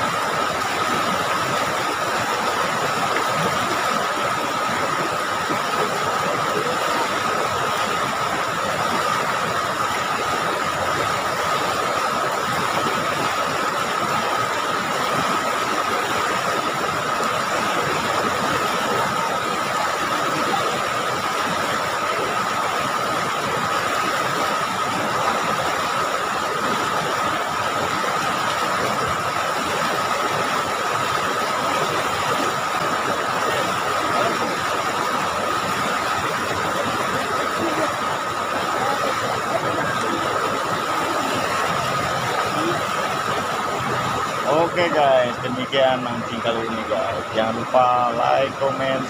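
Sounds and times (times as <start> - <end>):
river rapids rushing over rocks: 0.0 - 49.0.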